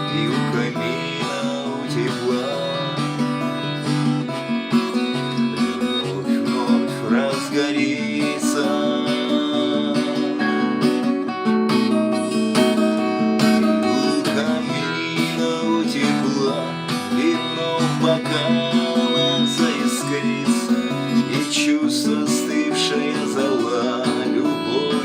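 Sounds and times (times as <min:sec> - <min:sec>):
acoustic guitar plucked and strummed: 0:00.0 - 0:25.0.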